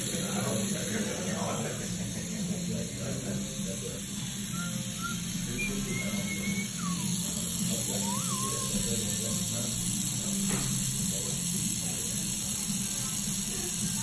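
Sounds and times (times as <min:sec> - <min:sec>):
tattoo machine humming: 0:00.0 - 0:14.0.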